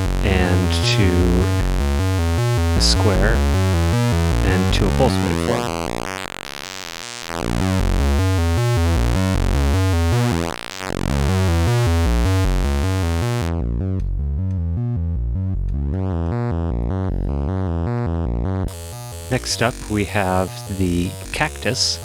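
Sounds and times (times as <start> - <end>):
low synthesizer note with shifting timbre: 0.0 - 6.5, 7.4 - 22.0.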